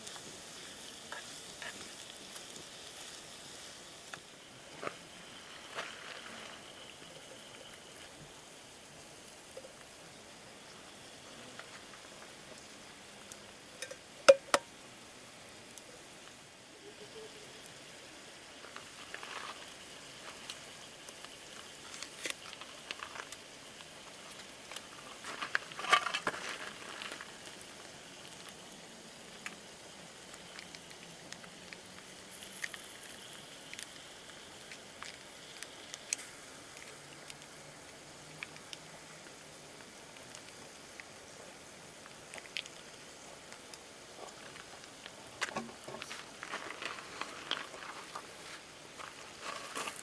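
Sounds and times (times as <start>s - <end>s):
campfire crackling and popping: 0.0s - 10.0s, 11.6s - 14.8s, 18.6s - 50.0s.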